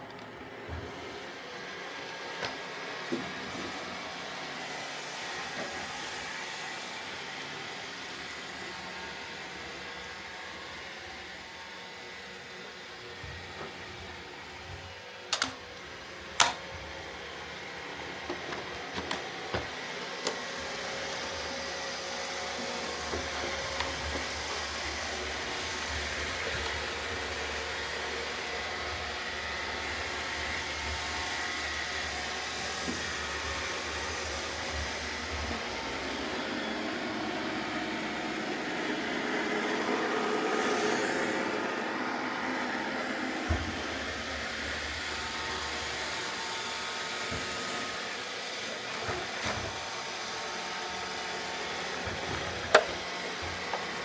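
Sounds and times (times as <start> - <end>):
robot vacuums whirring: 0.0 - 54.0.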